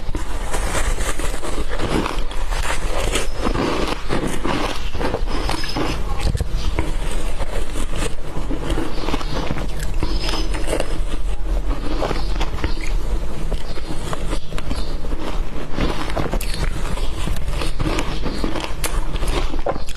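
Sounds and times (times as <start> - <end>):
crunching shaved ice: 0.0 - 19.9
spoon scraping ice: 0.0 - 19.9
steady low hum: 0.0 - 19.9.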